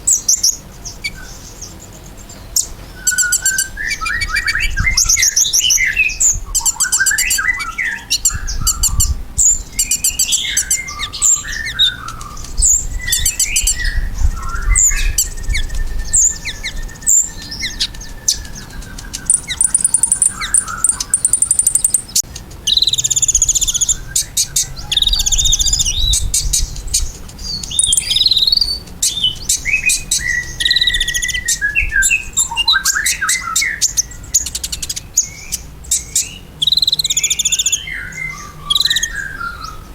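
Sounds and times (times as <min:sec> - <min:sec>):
sunbird singing high chirps: 0:00.0 - 0:39.9.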